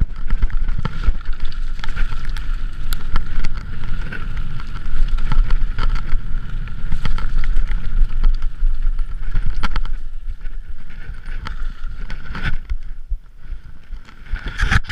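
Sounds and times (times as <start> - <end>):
tyres rolling over gravel: 0.0 - 12.9
bike rattling and knocking: 0.0 - 13.2
wind rumbling on microphone: 0.0 - 14.9.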